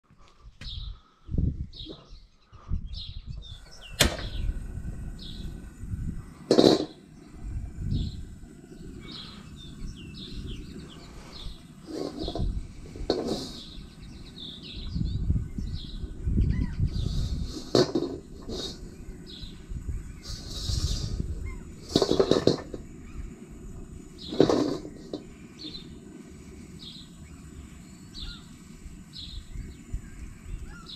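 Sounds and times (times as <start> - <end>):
birds chirping: 0.2 - 30.9
gas burner roaring: 3.4 - 30.9.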